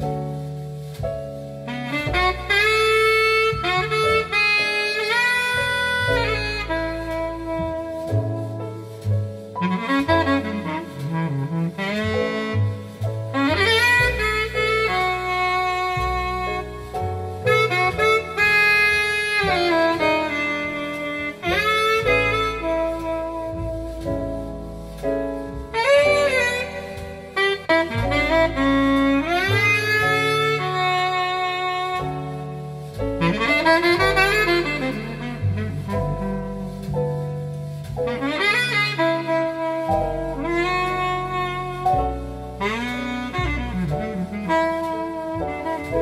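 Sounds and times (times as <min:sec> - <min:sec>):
double bass notes: 0:00.0 - 0:46.0
jazz saxophone ballad melody: 0:00.0 - 0:46.0.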